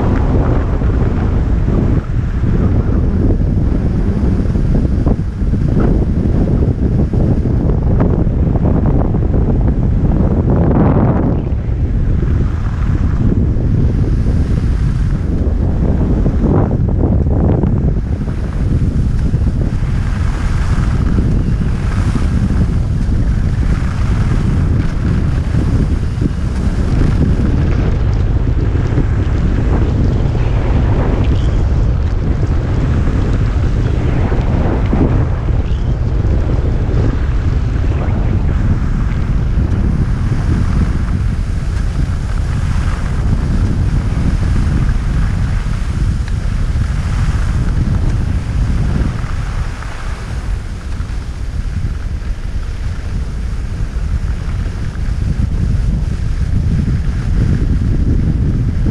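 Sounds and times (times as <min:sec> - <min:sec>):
loud wind noise on microphone: 0:00.0 - 0:58.9
skis sliding over snow: 0:00.0 - 0:58.9.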